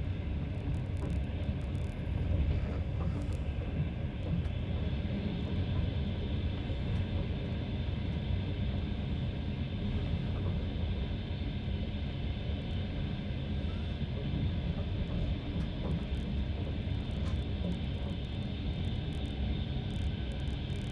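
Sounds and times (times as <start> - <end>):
train wheels rumbling on rails: 0.0 - 20.9.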